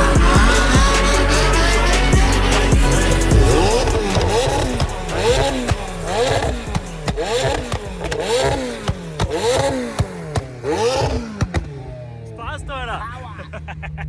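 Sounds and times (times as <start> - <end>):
sports car engine revving: 0.0 - 12.9
exhaust cracks: 0.0 - 14.0.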